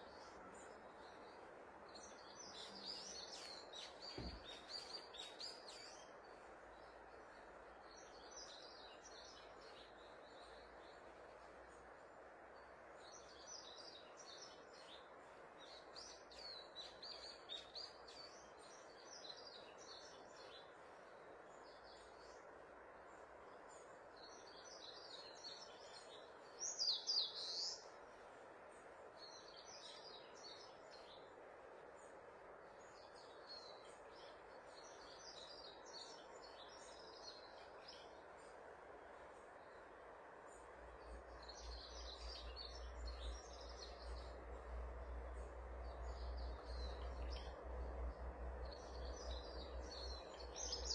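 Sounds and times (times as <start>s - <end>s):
small birds chirping: 0.0s - 50.9s
steady background hiss: 0.0s - 50.9s.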